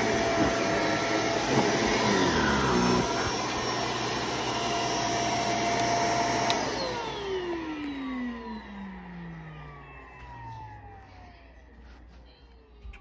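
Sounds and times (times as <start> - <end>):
motor winding down whine: 0.0 - 11.4
vacuum cleaner running: 0.0 - 12.4.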